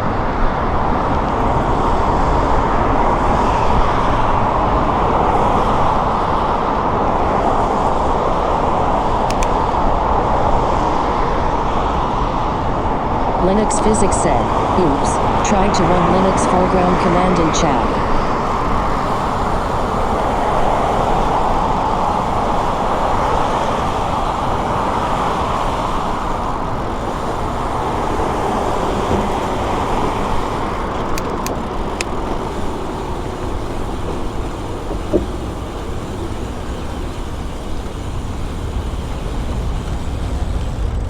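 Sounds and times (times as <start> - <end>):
bicycle road noise: 0.0 - 41.0
rushing wind: 0.0 - 41.0.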